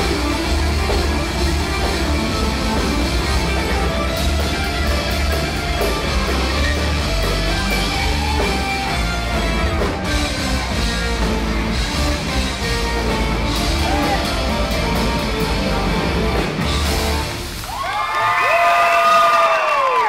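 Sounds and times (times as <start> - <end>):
rock band playing: 0.0 - 17.9
bass: 0.0 - 19.2.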